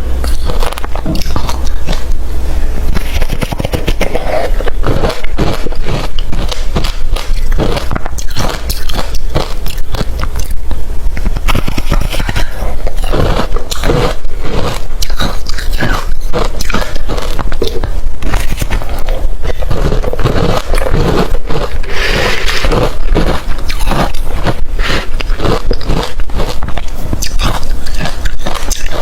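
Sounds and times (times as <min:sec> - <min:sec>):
chewing crushed ice: 0:00.2 - 0:02.2, 0:02.9 - 0:29.0.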